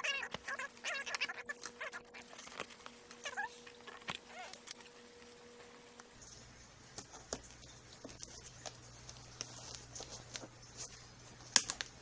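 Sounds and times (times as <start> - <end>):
packaging crinkling: 0.0 - 6.0, 7.0 - 12.0.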